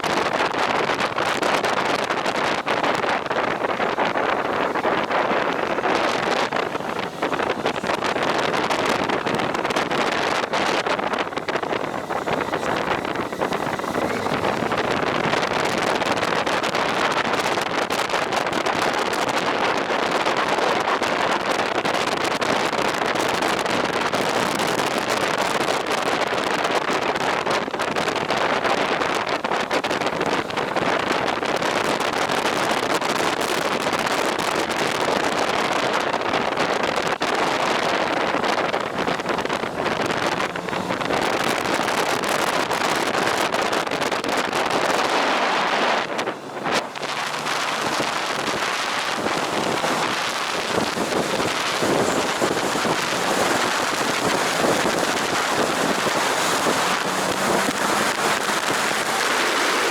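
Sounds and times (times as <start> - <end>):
road noise: 0.0 - 59.9
wind roaring over microphone: 0.0 - 59.9.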